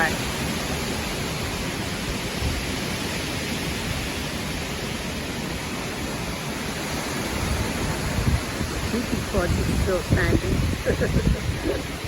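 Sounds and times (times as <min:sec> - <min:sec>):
storm wind and rain: 0:00.0 - 0:12.0
wind buffeting microphone: 0:00.0 - 0:12.0.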